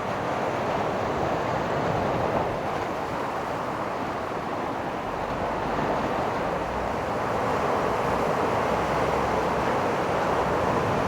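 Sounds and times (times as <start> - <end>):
ocean surf washing ashore: 0.0 - 11.0
wind rumble on microphone: 0.0 - 11.0.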